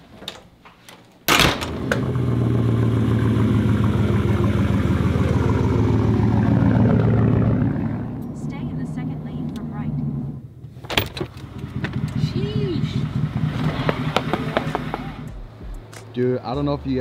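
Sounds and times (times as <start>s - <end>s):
vehicle engine starting and running: 1.3s - 17.0s.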